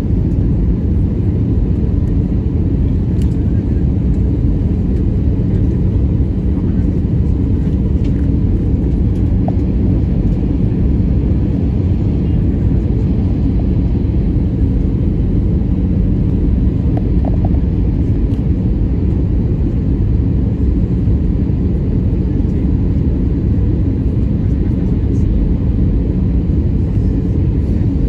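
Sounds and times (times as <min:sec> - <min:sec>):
jet engine drone in cabin: 0:00.0 - 0:28.0.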